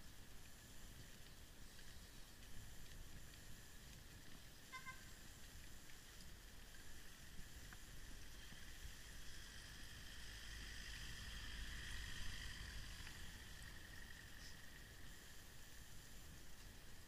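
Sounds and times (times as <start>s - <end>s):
bicycle road rumble and hiss: 0.0s - 17.0s.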